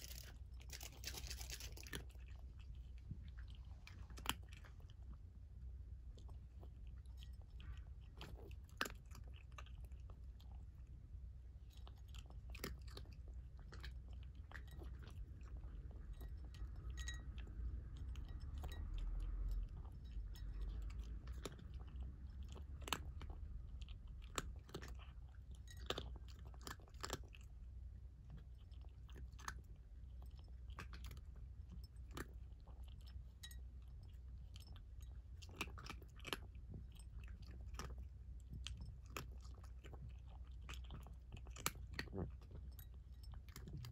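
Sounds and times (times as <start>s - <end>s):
cat crunching dry food: 0.0s - 43.9s.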